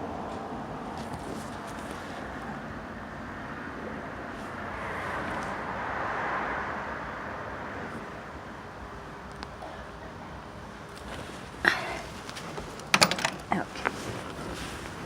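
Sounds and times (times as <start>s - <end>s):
vehicle passing: 0.0s - 12.8s
traffic noise: 0.0s - 15.0s.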